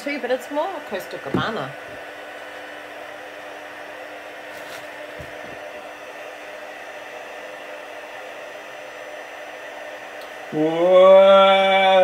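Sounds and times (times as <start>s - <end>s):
heat tool fan hissing: 0.0s - 12.0s.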